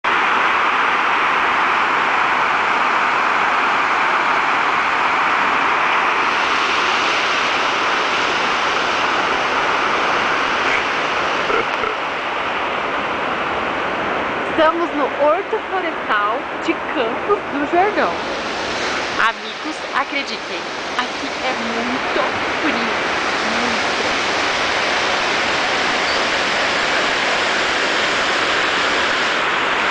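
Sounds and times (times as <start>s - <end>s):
running water rushing: 0.1s - 29.9s.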